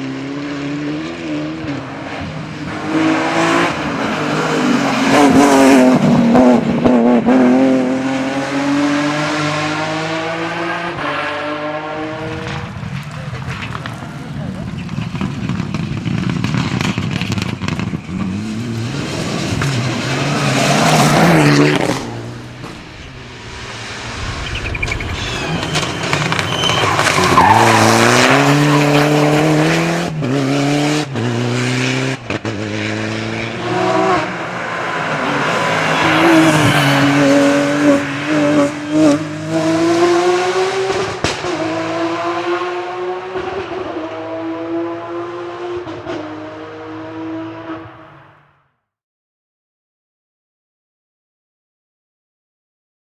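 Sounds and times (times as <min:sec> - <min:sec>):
rally car engines revving: 0:00.0 - 0:48.4.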